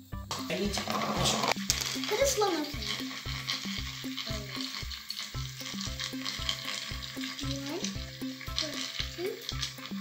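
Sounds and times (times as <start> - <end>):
toy motor hissing: 0.4 - 10.0.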